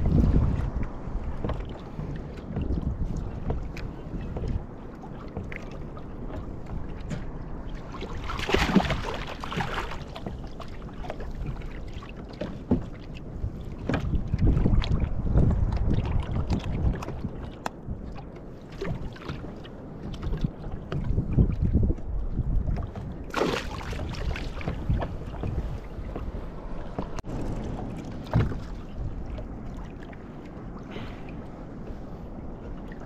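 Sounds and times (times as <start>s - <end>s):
water against kayak hull: 0.0s - 33.0s
wind rumbling on microphone: 0.0s - 33.0s.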